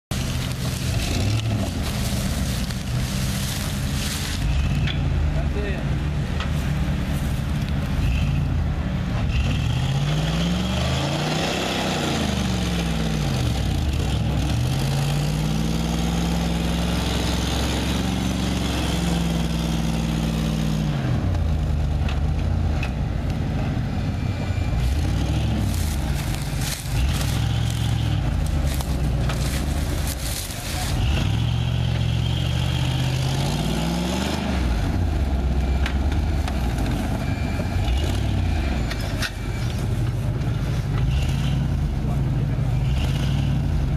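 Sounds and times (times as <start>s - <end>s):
truck engine revving: 0.1s - 43.9s.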